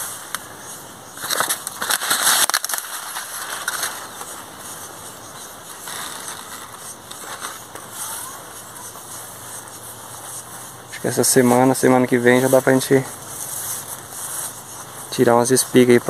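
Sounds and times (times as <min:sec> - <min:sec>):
corn leaves rustling and crackling: 0:00.0 - 0:16.0.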